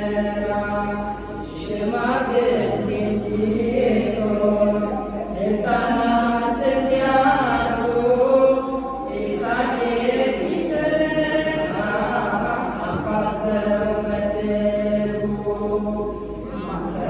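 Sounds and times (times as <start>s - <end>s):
women's choir singing a hymn: 0.0s - 17.0s.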